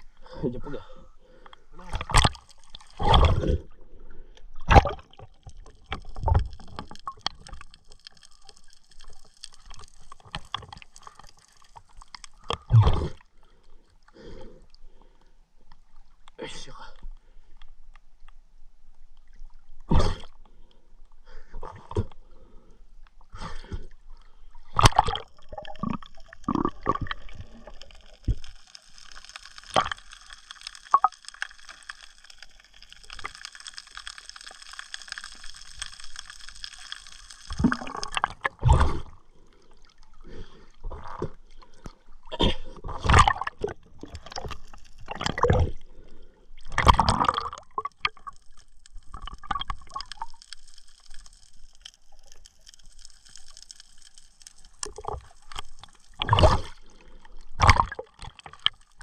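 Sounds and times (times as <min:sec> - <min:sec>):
water gurgling and splashing: 0:00.0 - 0:13.6, 0:24.4 - 0:59.0.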